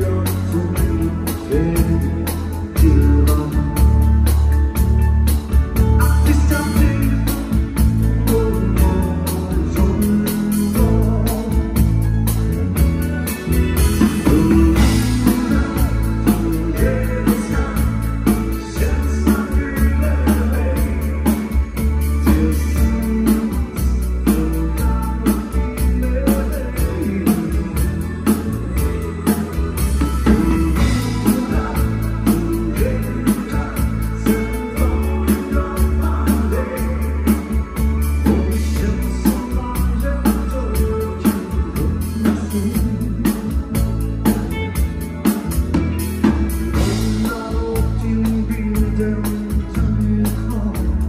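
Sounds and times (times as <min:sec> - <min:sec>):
man singing into a microphone: 0:00.0 - 0:04.4, 0:05.9 - 0:12.8, 0:14.0 - 0:44.5, 0:46.2 - 0:51.0
live band playing: 0:00.0 - 0:51.0.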